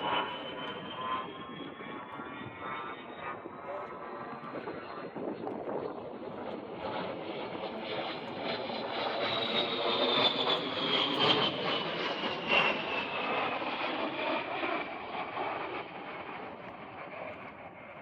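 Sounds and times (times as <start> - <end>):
jet aircraft fly-by whine: 0.0 - 18.0.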